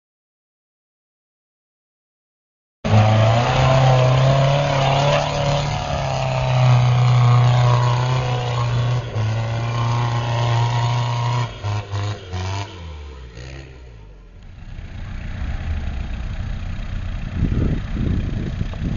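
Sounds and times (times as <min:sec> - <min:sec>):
off-road vehicle engine revving: 0:02.8 - 0:18.9.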